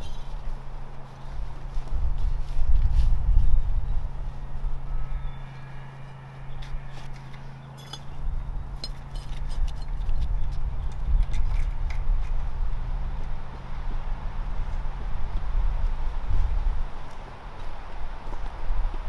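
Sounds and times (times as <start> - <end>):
low hum and rumble: 0.0 - 19.0.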